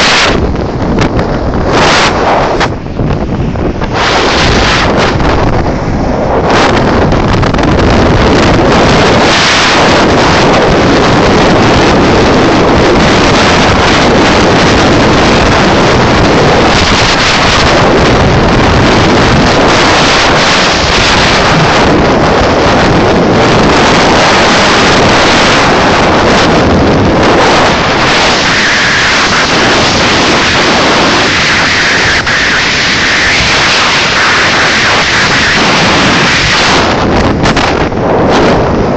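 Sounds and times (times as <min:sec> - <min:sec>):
outboard engines: 0:00.0 - 0:38.9
water and spray along hull: 0:00.0 - 0:38.9
wind on microphone: 0:00.0 - 0:38.9.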